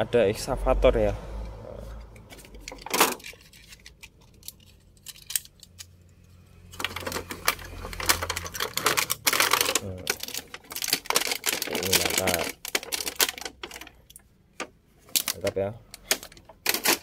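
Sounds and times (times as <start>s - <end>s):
plastic packaging crackling: 2.3s - 6.0s, 6.6s - 17.0s.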